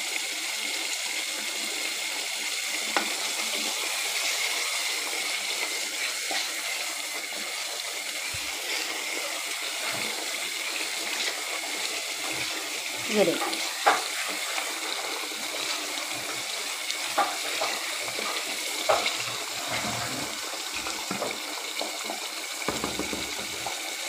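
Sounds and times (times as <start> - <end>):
curry sizzling in oil: 0.0 - 24.0.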